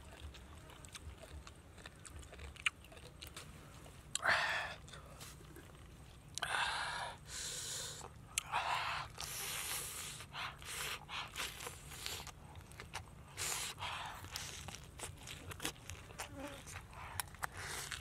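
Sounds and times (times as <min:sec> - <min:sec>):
man chewing: 0:00.0 - 0:18.0.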